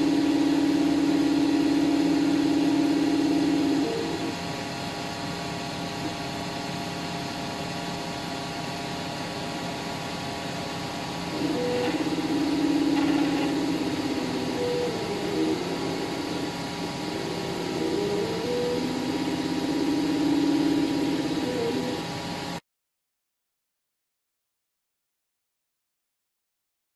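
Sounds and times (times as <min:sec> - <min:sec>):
fan hum: 0:00.0 - 0:22.6
stepper motors whining: 0:00.0 - 0:22.6.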